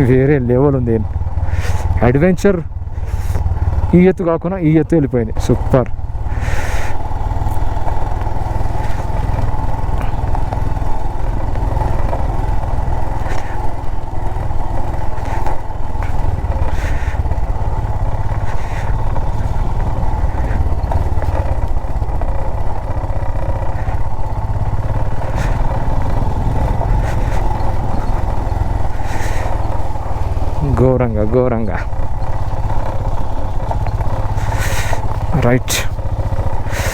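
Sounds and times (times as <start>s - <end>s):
motorcycle engine rumble: 0.0s - 36.9s.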